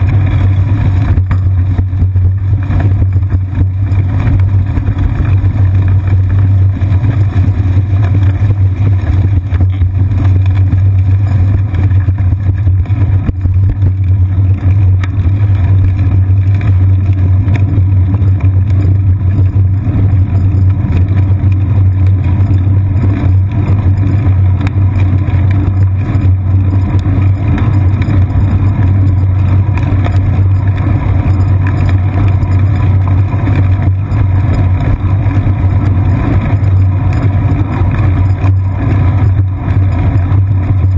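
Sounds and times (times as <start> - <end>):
bicycle rolling on asphalt: 0.0 - 40.9
wind on camera: 0.0 - 40.9.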